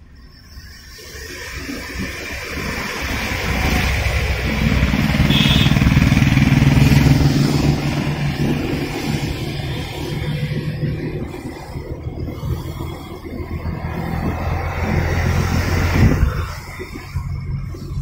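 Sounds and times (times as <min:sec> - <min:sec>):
tyres hissing on wet road: 0:00.0 - 0:18.0
vehicle engine hum: 0:00.0 - 0:18.0.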